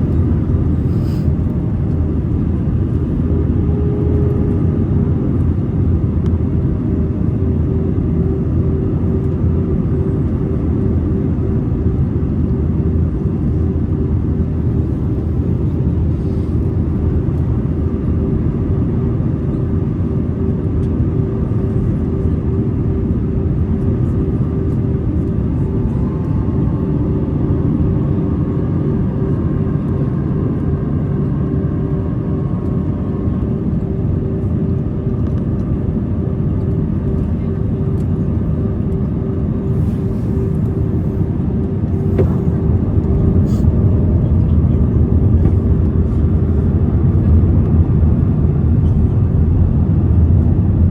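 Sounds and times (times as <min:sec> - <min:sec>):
airplane cabin engine rumble: 0:00.0 - 0:50.9
constant hum: 0:00.0 - 0:50.9.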